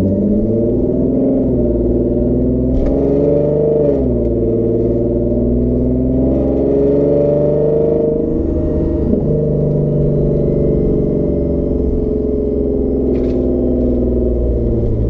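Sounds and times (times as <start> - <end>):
car engine droning through exhaust: 0.0 - 15.0.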